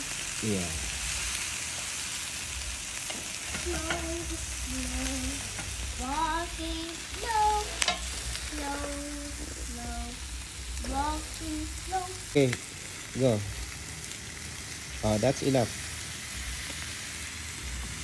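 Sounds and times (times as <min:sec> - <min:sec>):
meat sizzling on charcoal grill: 0:00.0 - 0:18.0.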